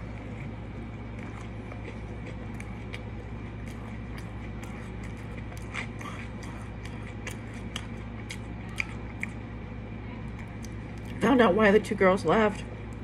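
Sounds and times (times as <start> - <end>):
chewing with wet mouth clicks: 0.0 - 9.6, 10.2 - 11.3
low hum: 0.0 - 13.0.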